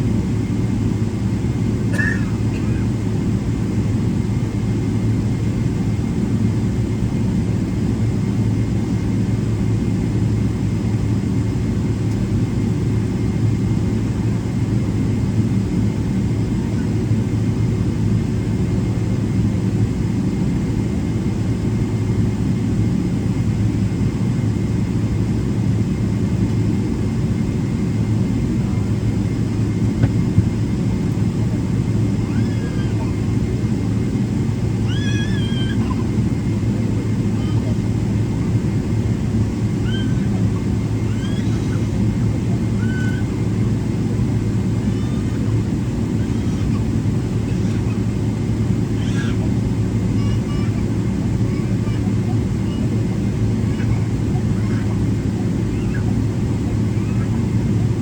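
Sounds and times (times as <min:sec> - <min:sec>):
airplane cabin low rumble: 0:00.0 - 0:58.0.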